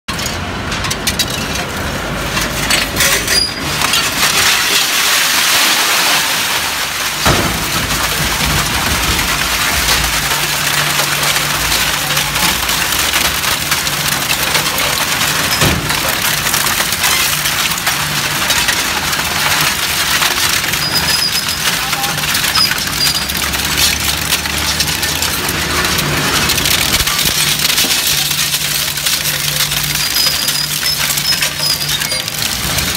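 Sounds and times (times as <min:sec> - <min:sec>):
metal shredder crushing scrap: 0:00.1 - 0:32.9.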